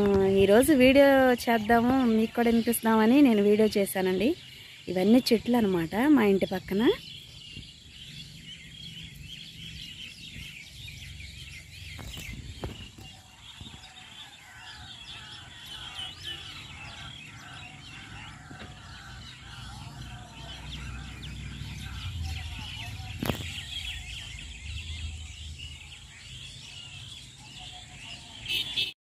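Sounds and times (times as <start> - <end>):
flock of birds chirping: 0.0 - 29.0.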